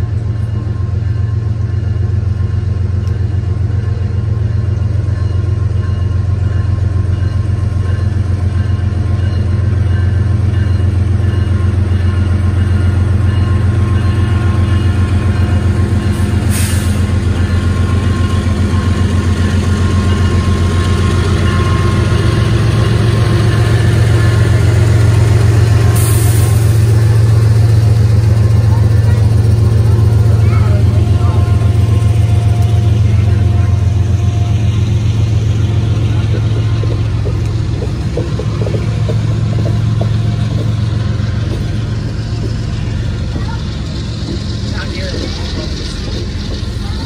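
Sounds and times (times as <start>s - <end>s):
freight train rumbling: 0.0s - 47.0s.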